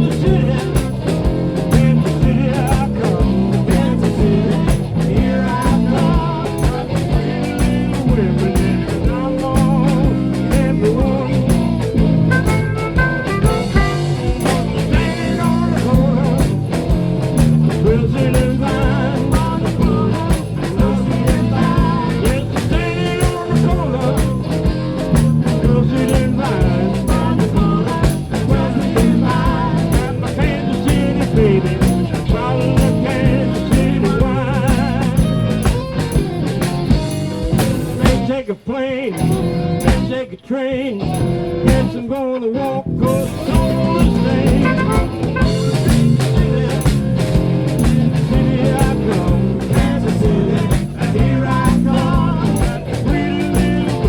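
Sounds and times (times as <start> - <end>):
blues band playing: 0.0 - 38.4, 39.1 - 40.3, 41.0 - 54.0.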